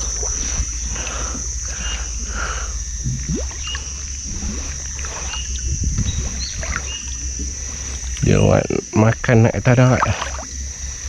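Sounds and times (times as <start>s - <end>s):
high-pitched insect drone: 0.0s - 11.0s
water lapping around boat: 0.0s - 11.0s.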